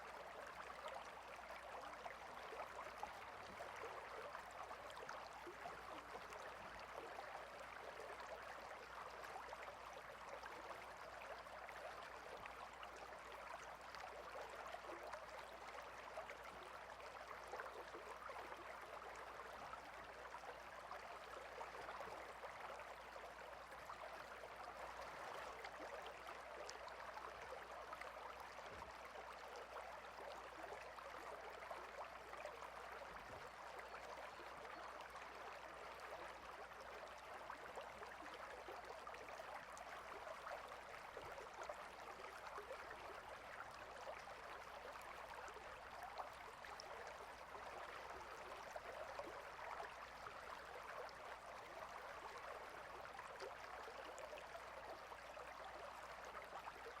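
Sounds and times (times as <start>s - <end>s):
faint stream babbling: 0.0s - 57.0s.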